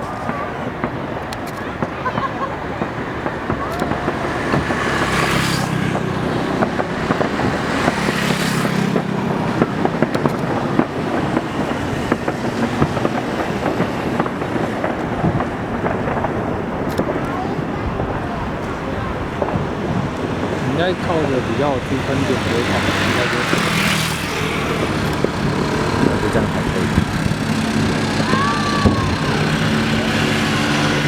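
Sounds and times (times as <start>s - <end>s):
distant fireworks popping: 0.0s - 31.0s
fireworks hissing rushes: 0.0s - 31.0s.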